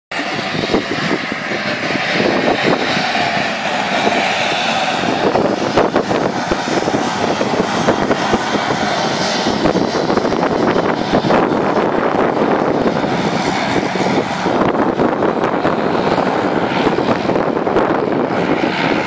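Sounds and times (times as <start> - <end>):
turboprop plane engines: 0.1 - 19.0.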